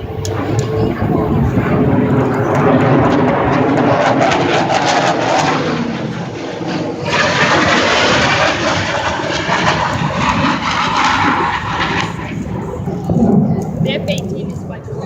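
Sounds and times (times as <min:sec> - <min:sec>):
jets roaring overhead: 0:00.0 - 0:15.0.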